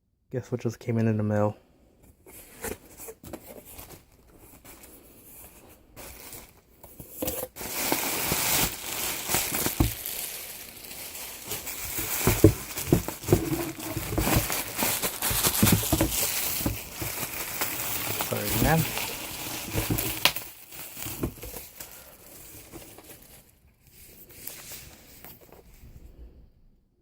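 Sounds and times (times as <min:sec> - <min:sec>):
wrapping crinkling and tearing: 0:03.5 - 0:25.7.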